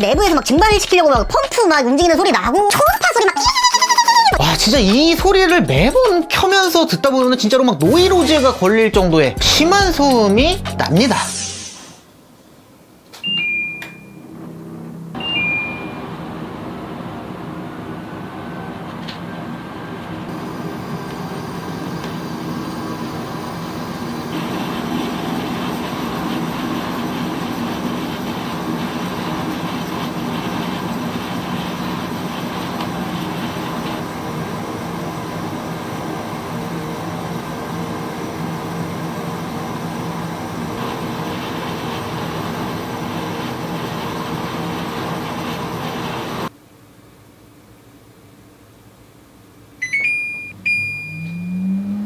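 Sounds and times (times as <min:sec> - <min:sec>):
air conditioner droning: 0:00.0 - 0:11.2, 0:12.0 - 0:52.0.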